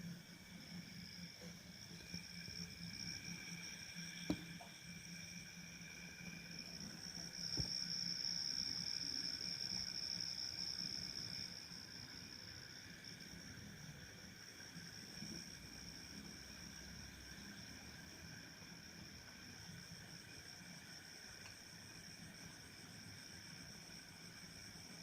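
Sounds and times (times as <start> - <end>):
night insects chirring: 0.0 - 25.0.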